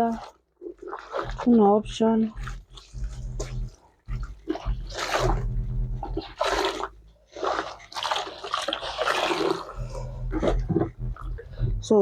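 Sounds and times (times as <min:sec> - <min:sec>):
water splashing in a basin: 0:00.0 - 0:11.6
low steady hum: 0:00.0 - 0:12.0.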